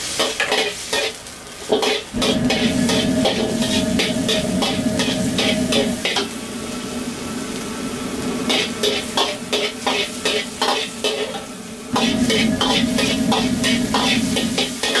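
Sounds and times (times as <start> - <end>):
paste sizzling in oil: 0.0 - 15.0
metal ladle scraping wok: 0.3 - 6.4, 8.4 - 15.0.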